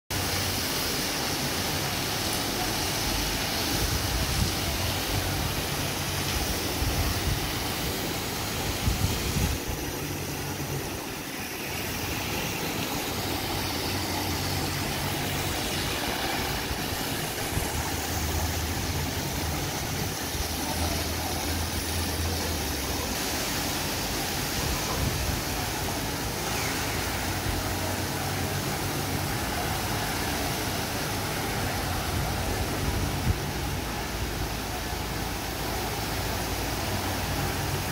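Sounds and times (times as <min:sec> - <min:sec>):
water jets splashing into pool: 0:00.1 - 0:37.9.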